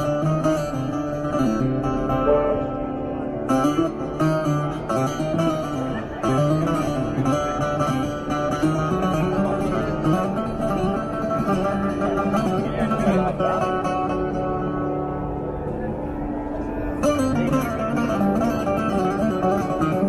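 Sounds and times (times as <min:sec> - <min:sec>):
plucked string instrument melody: 0:00.0 - 0:20.0.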